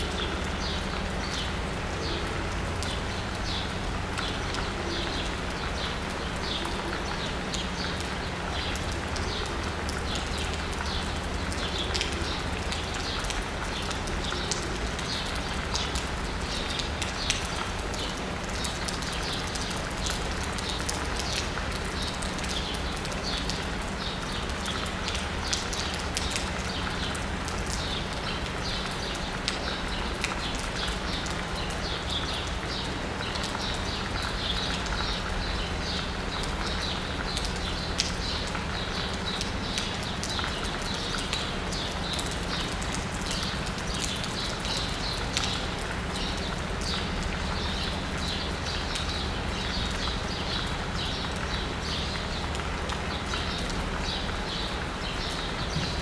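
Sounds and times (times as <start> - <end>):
rain pattering on asphalt: 0.0 - 56.0
water drips: 0.1 - 56.0.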